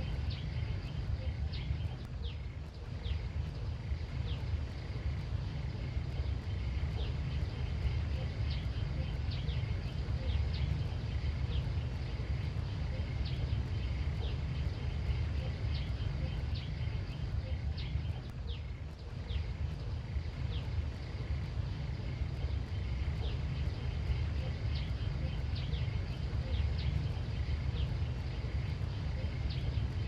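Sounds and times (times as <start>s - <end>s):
high insect hum: 0.0s - 30.0s.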